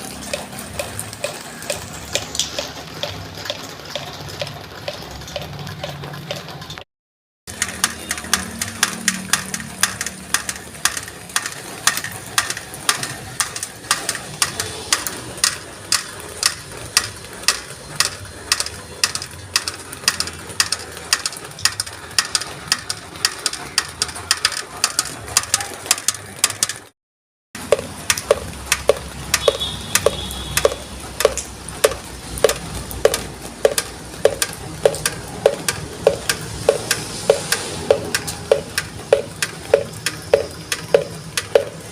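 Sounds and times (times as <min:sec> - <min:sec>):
rain hissing: 0:00.0 - 0:05.7, 0:07.5 - 0:25.4, 0:27.6 - 0:41.9
water dripping: 0:00.0 - 0:06.8, 0:07.5 - 0:26.2, 0:27.6 - 0:41.9.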